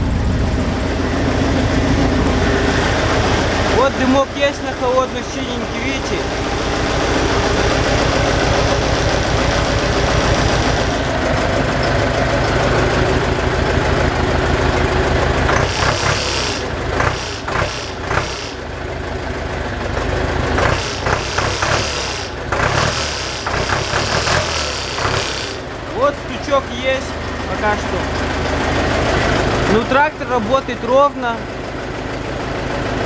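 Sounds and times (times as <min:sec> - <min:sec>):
diesel tractor engine idling: 0:00.0 - 0:33.0.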